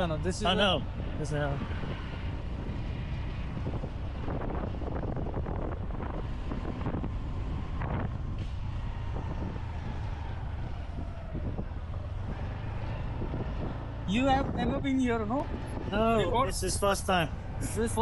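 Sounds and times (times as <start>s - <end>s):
road noise: 0.0s - 18.0s
traffic: 0.0s - 18.0s
wind buffeting microphone: 0.0s - 18.0s.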